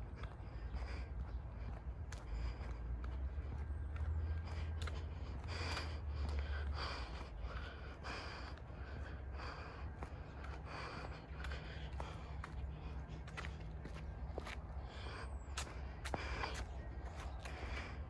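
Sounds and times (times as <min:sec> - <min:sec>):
heavy rhythmic breathing: 0:00.0 - 0:18.0.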